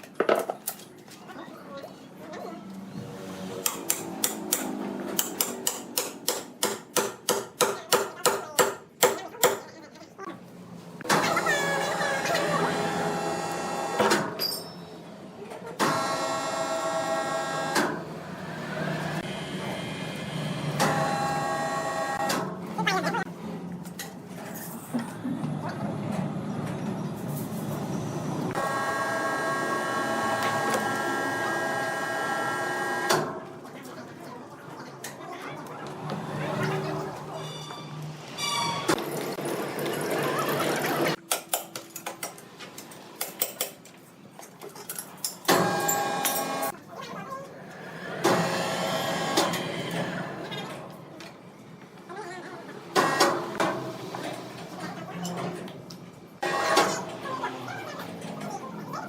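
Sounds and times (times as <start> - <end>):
mechanical background noise: 0.0 - 59.0.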